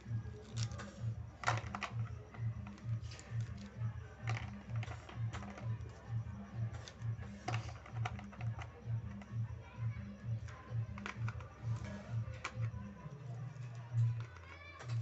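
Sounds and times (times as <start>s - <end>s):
small hard objects clicking: 0.0s - 9.4s, 10.4s - 15.0s
background music with low beat: 0.0s - 15.0s.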